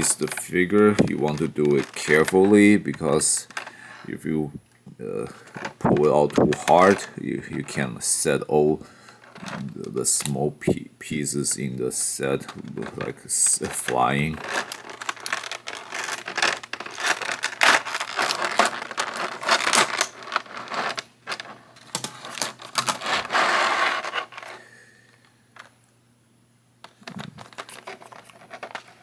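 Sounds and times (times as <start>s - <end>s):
plastic blister tray crinkling: 0.0s - 25.8s, 26.8s - 29.0s.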